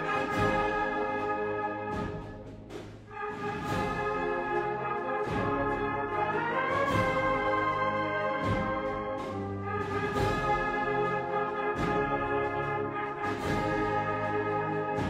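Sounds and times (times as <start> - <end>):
brass band playing chords: 0.0 - 15.0.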